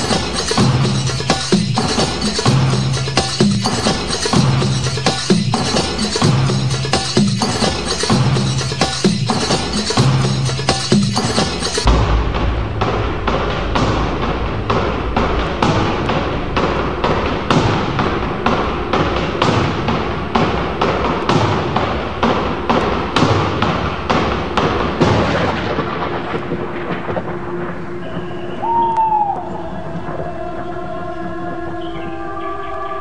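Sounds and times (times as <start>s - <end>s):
heavy reverberating percussive hits: 0.0s - 30.7s.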